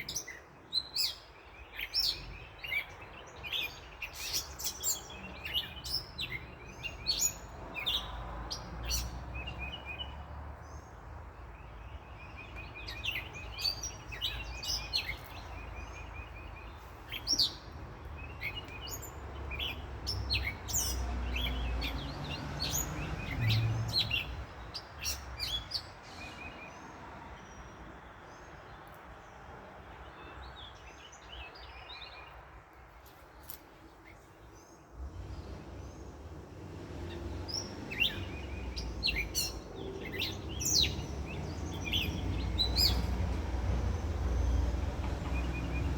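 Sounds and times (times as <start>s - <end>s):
low rumble of road traffic: 0.0s - 45.9s
wild birds chirping and trilling: 0.0s - 45.9s.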